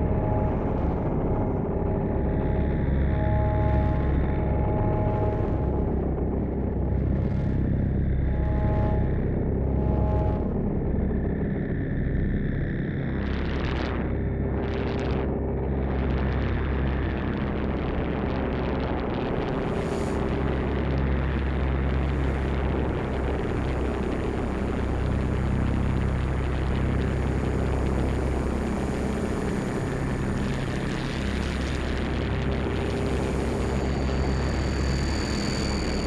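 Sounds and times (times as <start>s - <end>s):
low rumbling drone: 0.0s - 36.0s.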